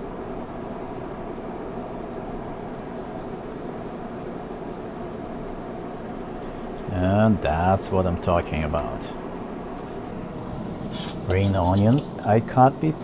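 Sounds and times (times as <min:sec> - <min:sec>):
stew simmering in pan: 0:00.0 - 0:13.0.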